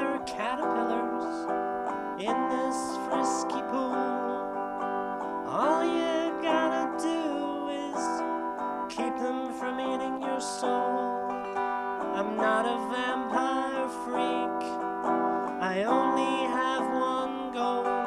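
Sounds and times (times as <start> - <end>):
acoustic guitar strummed and plucked: 0.0 - 18.0.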